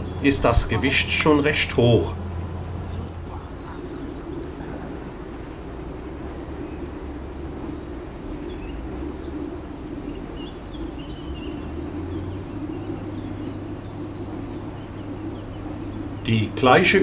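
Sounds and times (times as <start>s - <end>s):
distant machinery drone: 0.0s - 17.0s
small birds chirping: 0.0s - 17.0s.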